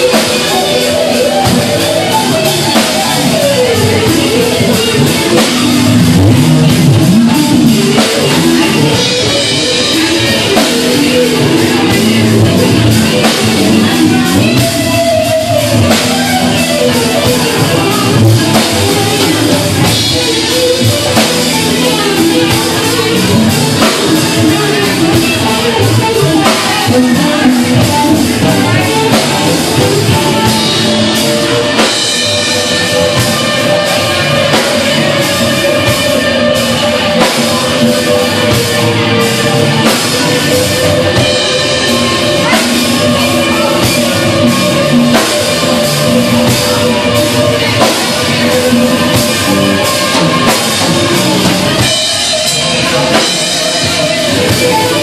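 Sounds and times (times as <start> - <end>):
drum kit beat: 0.0 - 55.0
electric guitar: 0.0 - 55.0.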